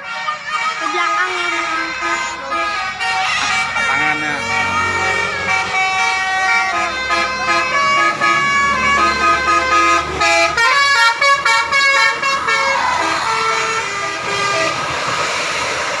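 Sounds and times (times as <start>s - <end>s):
bus horn playing a tune: 0.0s - 14.9s.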